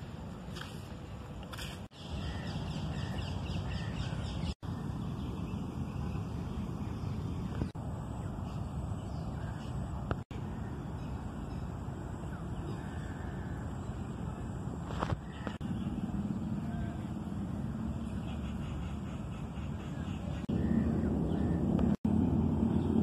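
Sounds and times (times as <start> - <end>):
birds calling: 1.6 - 23.0.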